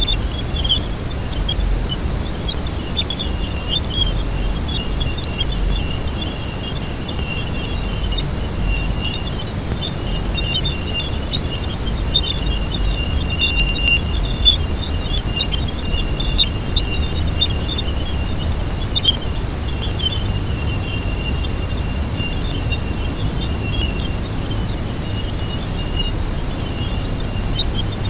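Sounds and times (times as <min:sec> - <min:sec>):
high fluttering chirps and crackles: 0:00.0 - 0:28.0
steady low rushing noise: 0:00.0 - 0:28.0.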